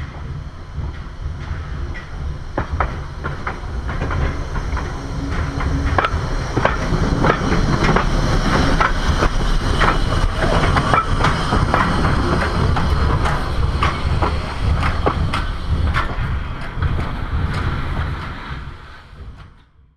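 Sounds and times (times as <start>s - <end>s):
locomotive low rumble: 0.0s - 19.6s
train wheels clicking on rails: 0.0s - 19.8s.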